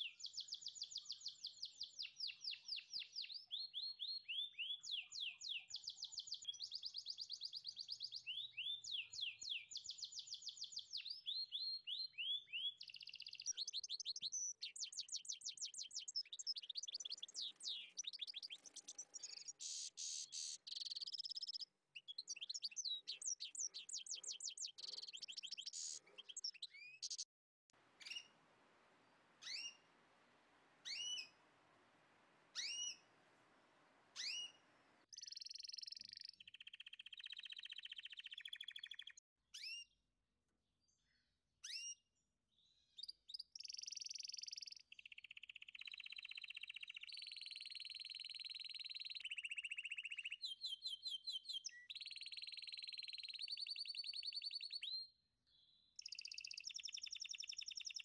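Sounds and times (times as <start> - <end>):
songbird singing: 0.0 - 39.8, 42.6 - 58.0.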